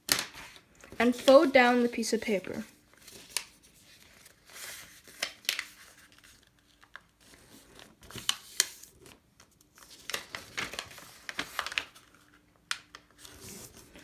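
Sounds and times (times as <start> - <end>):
paper being folded and creased: 0.1 - 14.0.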